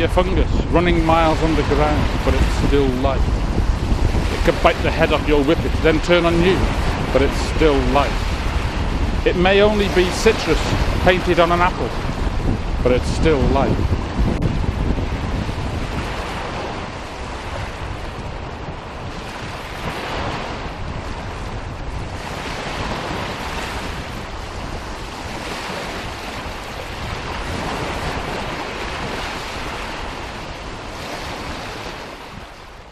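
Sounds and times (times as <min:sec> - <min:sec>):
waves washing on shore: 0:00.0 - 0:32.9
wind noise: 0:00.0 - 0:32.9.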